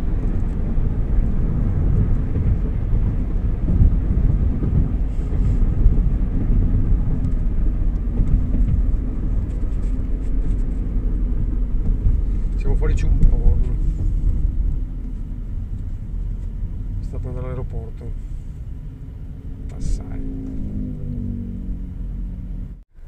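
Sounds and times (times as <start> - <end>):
car engine rumble: 0.0 - 23.0
tyre road noise: 0.0 - 23.0.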